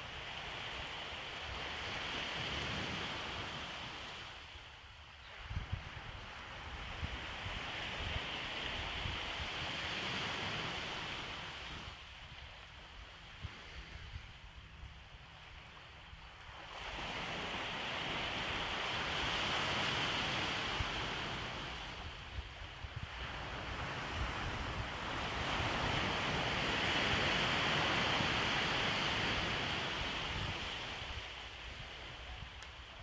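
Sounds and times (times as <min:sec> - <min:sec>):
waves washing onto beach: 0:00.0 - 0:33.0.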